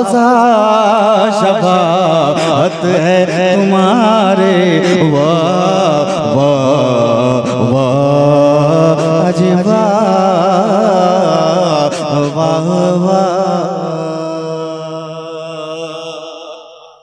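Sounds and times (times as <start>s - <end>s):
man singing unaccompanied: 0.0s - 16.9s.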